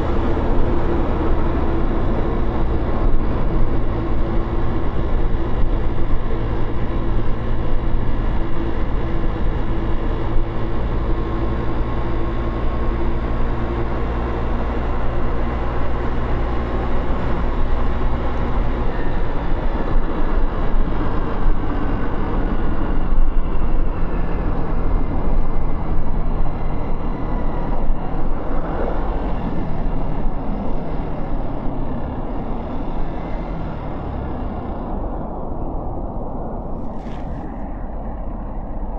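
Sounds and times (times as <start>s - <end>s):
city traffic: 0.0s - 38.9s
wind noise: 0.0s - 38.9s.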